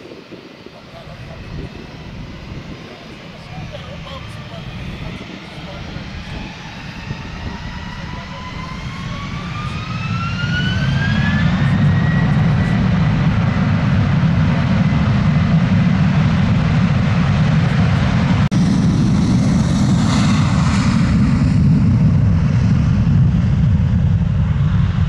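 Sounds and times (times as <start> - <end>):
deep engine rumble: 0.0 - 25.0
jet engine whine: 0.0 - 25.0.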